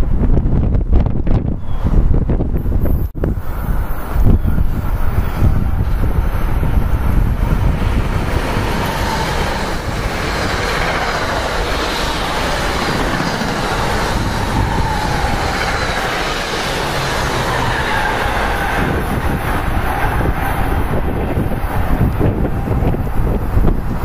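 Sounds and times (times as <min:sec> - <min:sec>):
wind rumbling on microphone: 0:00.0 - 0:24.0
train wheels rushing on rails: 0:03.2 - 0:24.0.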